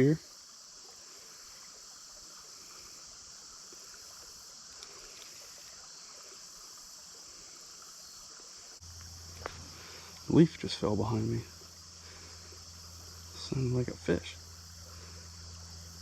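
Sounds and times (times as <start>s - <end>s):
insect chorus: 0.0s - 16.0s
water running in a creek: 0.0s - 16.0s.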